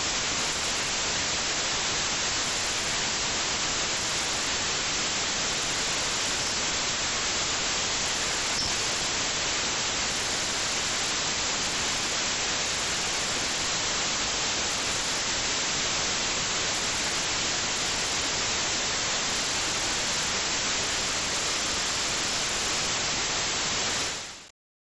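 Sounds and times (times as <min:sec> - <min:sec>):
electronic static hiss: 0:00.0 - 0:24.5.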